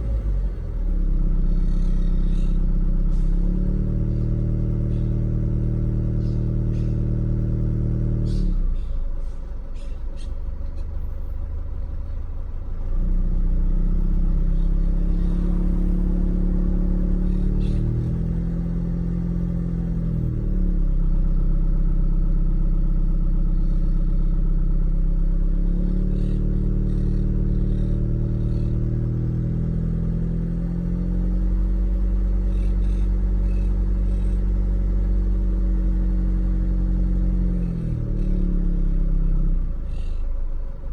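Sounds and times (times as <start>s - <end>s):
diesel engine droning at low revs: 0.0s - 40.9s.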